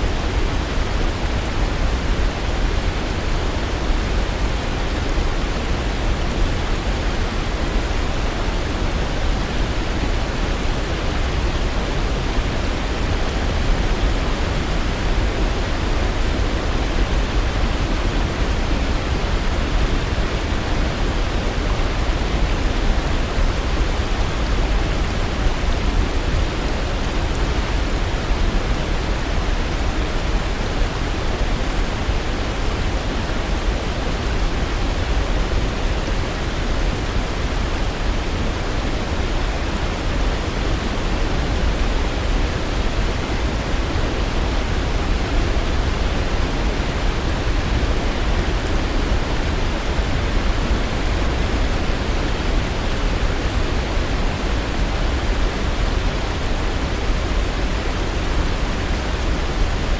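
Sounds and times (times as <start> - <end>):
waterfall rushing: 0.1 - 59.9.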